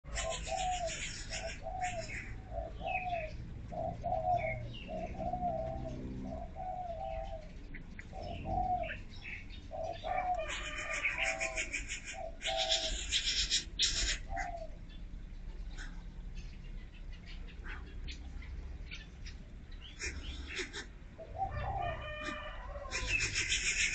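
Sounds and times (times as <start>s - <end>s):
bird cooing: 0.0s - 23.9s.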